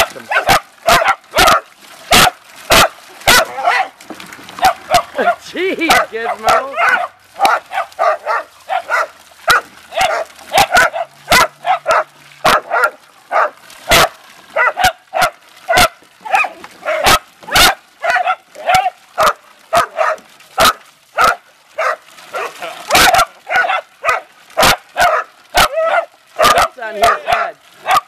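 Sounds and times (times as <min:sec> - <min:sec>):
small dogs barking: 0:00.0 - 0:04.0, 0:04.6 - 0:28.0
dogs yipping: 0:00.2 - 0:04.0, 0:04.6 - 0:28.0.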